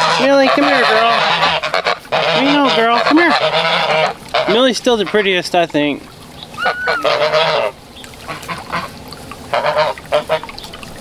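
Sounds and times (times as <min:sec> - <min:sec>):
geese honking: 0:00.0 - 0:05.4, 0:06.4 - 0:10.5.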